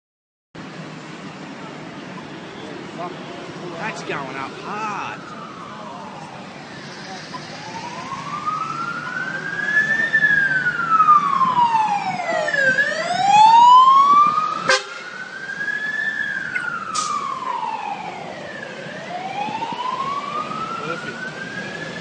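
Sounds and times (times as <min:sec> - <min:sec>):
fire engine siren wailing: 0:03.8 - 0:22.0.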